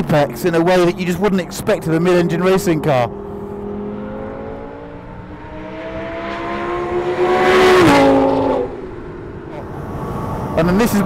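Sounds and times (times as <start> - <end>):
race car engine accelerating: 0.3 - 10.8.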